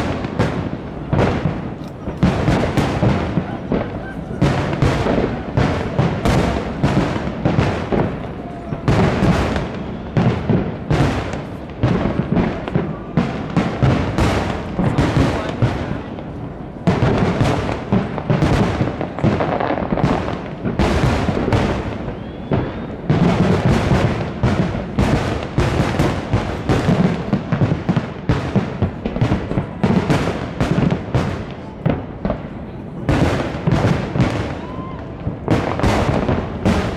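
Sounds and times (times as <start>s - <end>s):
fireworks bursting: 0.0s - 36.9s.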